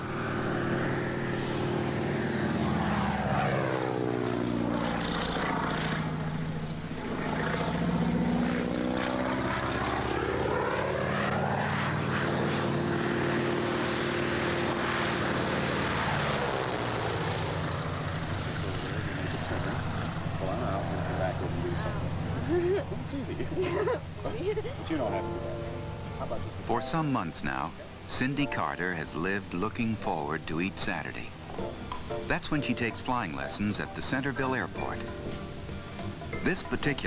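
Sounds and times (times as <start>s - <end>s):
propeller plane engine droning: 0.0s - 37.0s.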